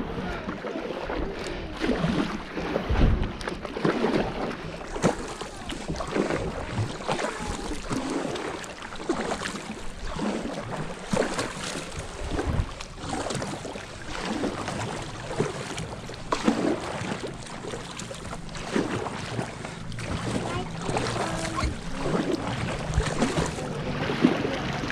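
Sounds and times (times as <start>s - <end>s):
kayak paddle splashing: 0.0s - 24.9s
water moving around hull: 0.0s - 24.9s.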